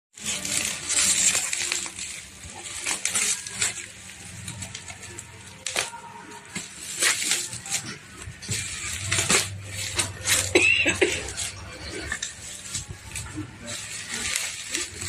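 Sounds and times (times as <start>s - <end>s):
rustling: 0.2s - 15.0s
small hard objects clinking: 0.2s - 15.0s.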